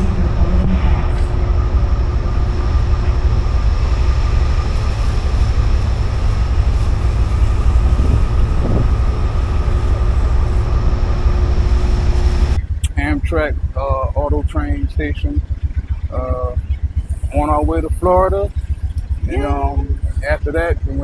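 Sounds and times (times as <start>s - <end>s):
faint steady tones: 0.0s - 21.0s
passenger train rumbling: 0.0s - 21.0s.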